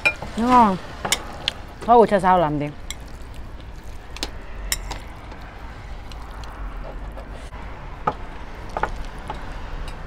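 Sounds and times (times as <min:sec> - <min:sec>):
wet eating sounds: 0:00.4 - 0:01.9, 0:02.7 - 0:10.0.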